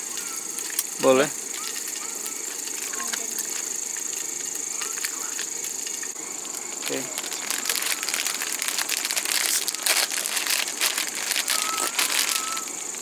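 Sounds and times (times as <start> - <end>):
high-pitched hiss: 0.0 - 13.0
packaging crinkling: 0.0 - 13.0.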